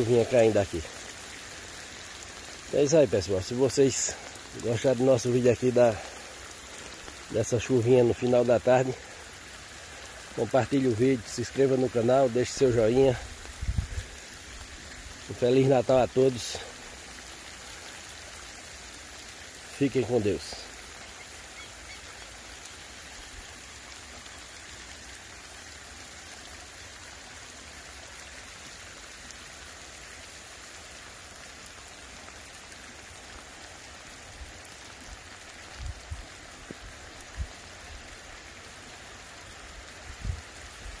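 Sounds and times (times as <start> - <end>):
rain falling on ground: 0.0 - 41.0.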